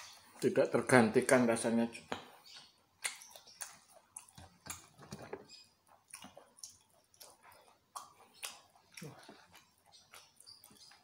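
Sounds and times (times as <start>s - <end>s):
chewing mouth clicks and smacks: 2.0s - 11.0s.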